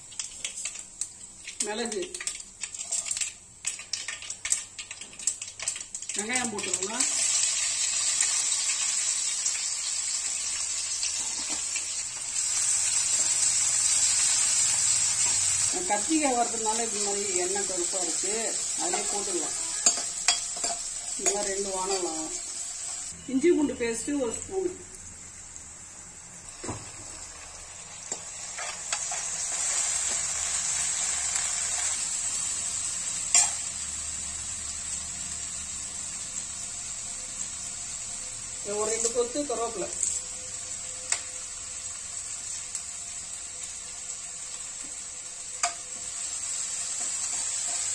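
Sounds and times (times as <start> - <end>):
onions sizzling in hot oil: 0.0 - 47.9.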